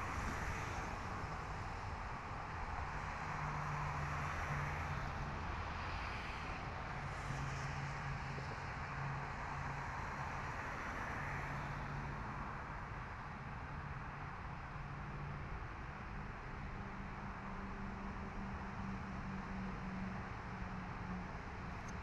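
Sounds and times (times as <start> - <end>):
freeway traffic noise: 0.0 - 22.0.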